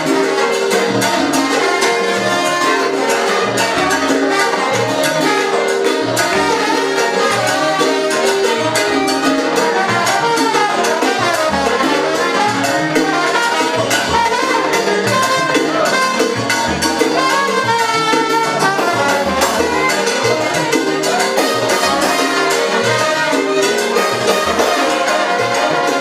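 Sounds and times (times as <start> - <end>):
bass: 0.0 - 2.8, 3.4 - 26.0
brass section: 0.0 - 26.0
latin percussion: 0.0 - 26.0
piano: 0.0 - 26.0.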